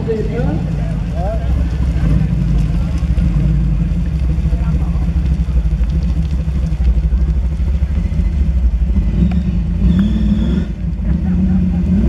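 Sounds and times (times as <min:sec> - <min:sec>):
race car engine deep rumble: 0:00.0 - 0:12.0.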